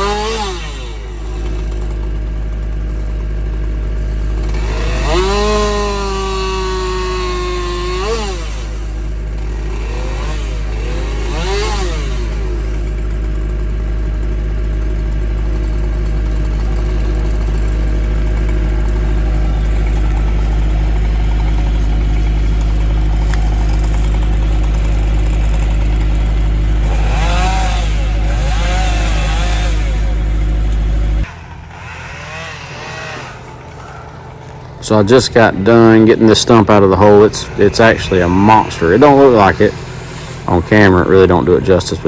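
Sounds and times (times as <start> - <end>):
excavator diesel engine droning: 0.0 - 42.0.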